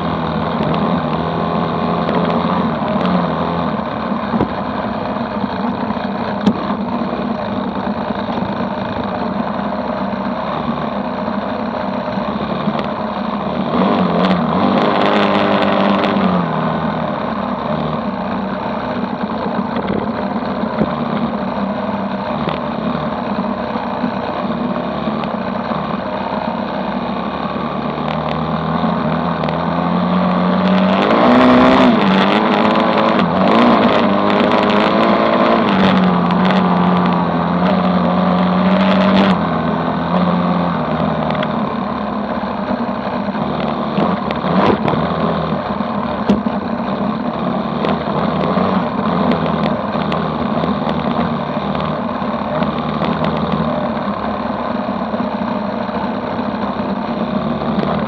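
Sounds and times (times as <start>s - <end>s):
constant rush of noise: 0.0s - 58.0s
dirt bike engine: 0.0s - 58.0s.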